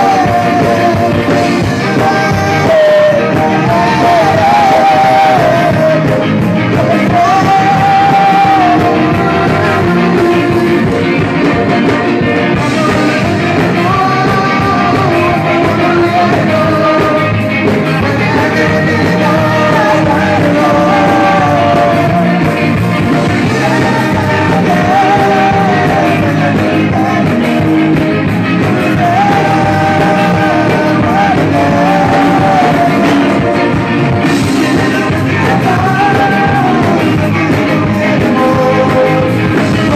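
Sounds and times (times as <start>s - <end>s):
live band music: 0.0s - 39.9s
man singing into a microphone: 0.0s - 39.9s.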